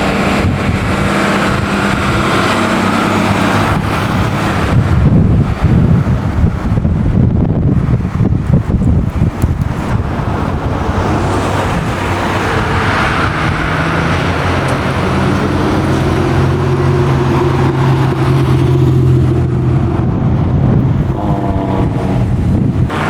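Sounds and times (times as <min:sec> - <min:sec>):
another engine: 0:00.0 - 0:23.0.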